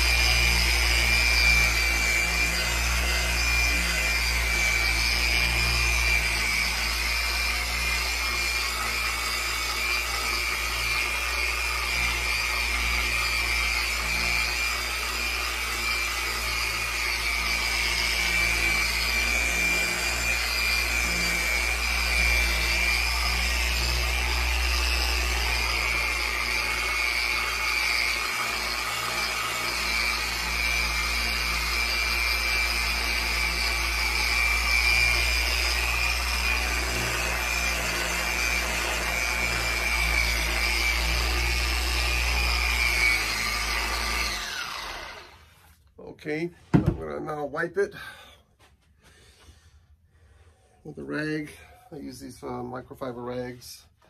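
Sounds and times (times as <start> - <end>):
electric polisher whining: 0.0 - 45.8.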